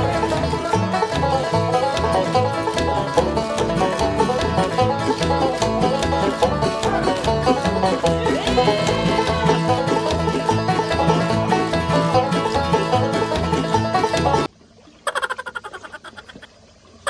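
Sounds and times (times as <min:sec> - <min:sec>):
banjo-led bluegrass music: 0:00.0 - 0:14.5, 0:15.1 - 0:16.4.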